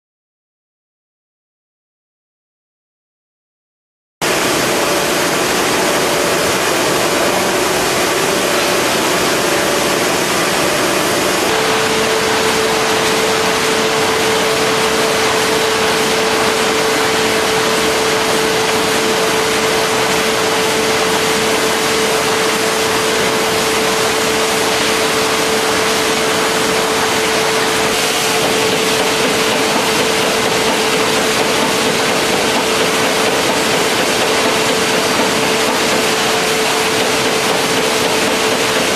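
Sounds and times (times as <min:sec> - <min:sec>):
machine hum: 0:04.2 - 0:38.9
machine whirring and hissing: 0:04.2 - 0:38.9.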